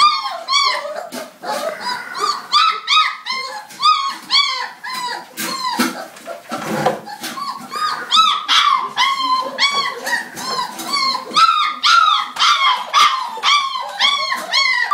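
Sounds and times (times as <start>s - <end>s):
puppies yelping and whining: 0.0s - 14.9s.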